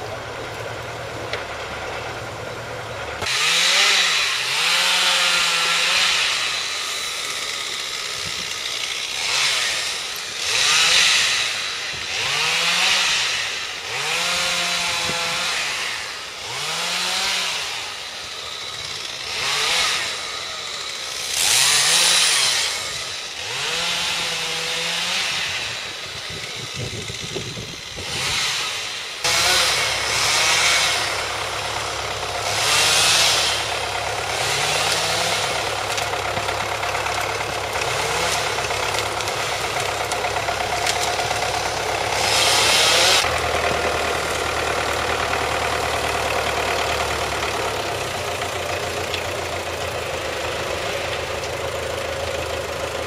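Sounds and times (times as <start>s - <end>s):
tractor engine running: 0.0s - 53.0s
chainsaw cutting branches: 3.1s - 53.0s.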